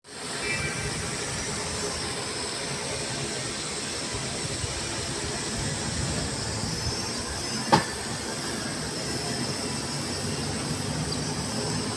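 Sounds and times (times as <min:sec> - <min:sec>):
airliner cabin noise: 0:00.1 - 0:11.9.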